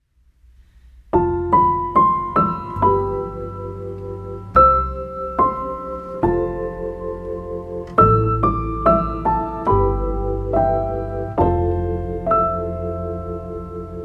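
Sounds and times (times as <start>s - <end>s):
piano music: 1.1s - 14.0s.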